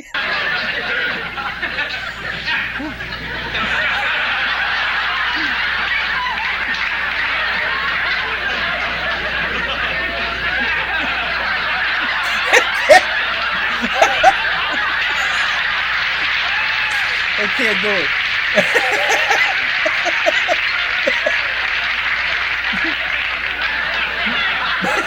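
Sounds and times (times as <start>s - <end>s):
studio audience laughing: 0.0s - 25.0s.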